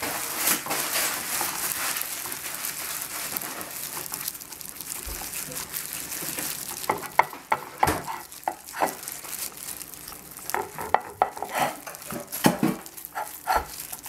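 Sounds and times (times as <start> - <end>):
hands rubbing raw chicken: 0.7 - 14.0.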